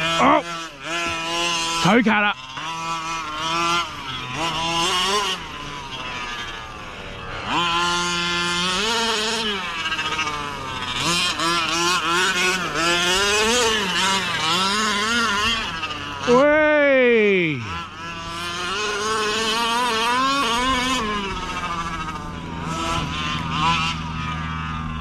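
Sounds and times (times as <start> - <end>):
rc car engine revving: 0.0 - 25.0.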